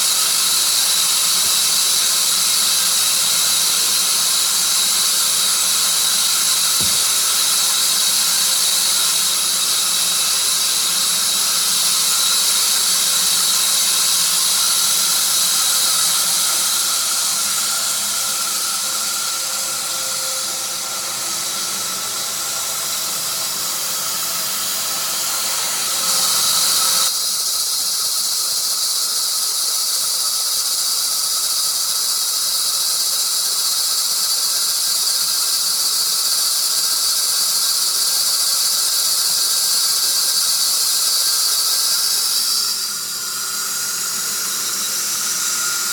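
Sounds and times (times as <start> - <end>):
sawmill cutting log: 0.0 - 27.1, 34.4 - 45.9
high-pitched hiss and squeal: 0.0 - 45.9.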